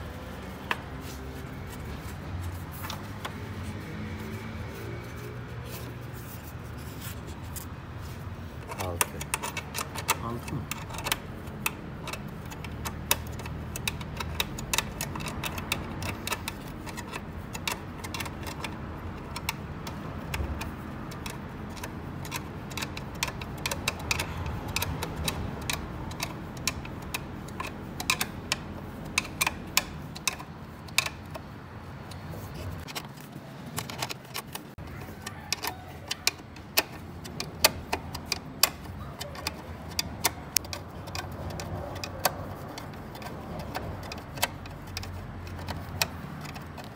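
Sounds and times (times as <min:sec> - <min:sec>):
metallic clicks of hand tools: 0:08.6 - 0:46.9.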